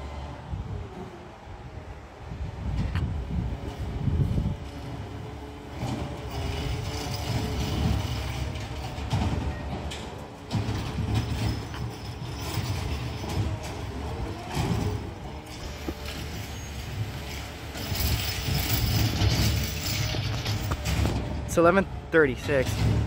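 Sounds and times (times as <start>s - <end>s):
garbage truck diesel engine rumble: 0.0s - 23.0s.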